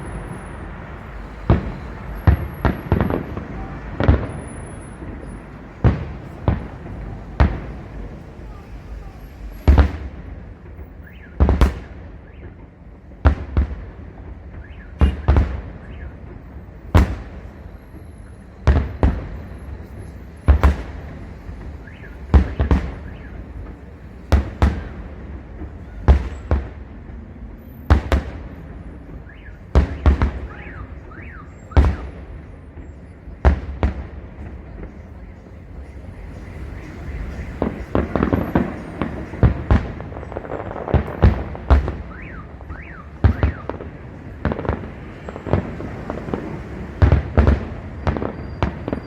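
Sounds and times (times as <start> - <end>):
fireworks crack: 0.0 - 49.0.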